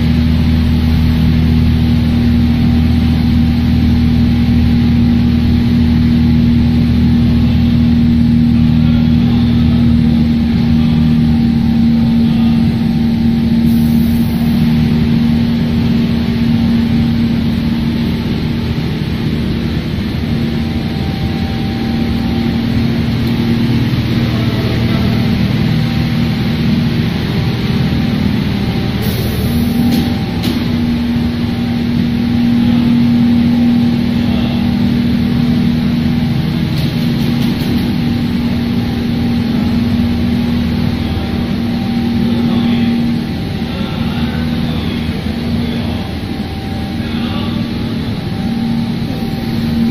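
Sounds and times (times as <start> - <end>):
machine hum and whir: 0.0 - 49.9.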